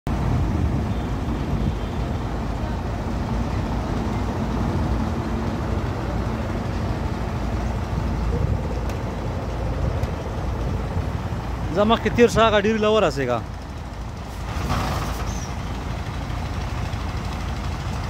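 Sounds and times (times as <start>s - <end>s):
truck diesel engine idling: 0.1s - 18.0s.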